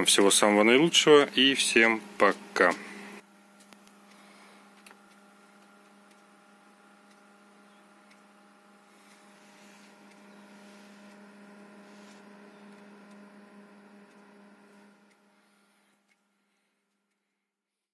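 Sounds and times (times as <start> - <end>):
computer fan humming: 0.0 - 17.6.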